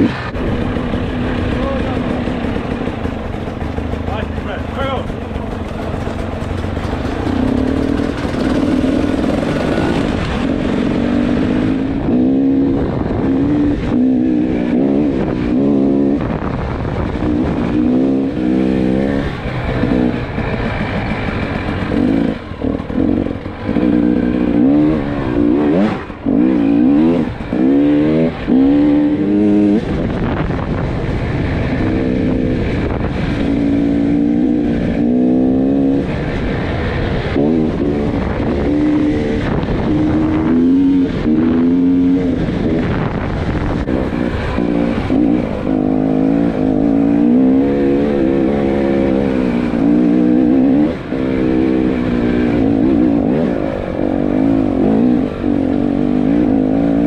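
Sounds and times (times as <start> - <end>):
motorcycle engine revving: 0.0 - 57.0
wind rushing: 7.4 - 57.0.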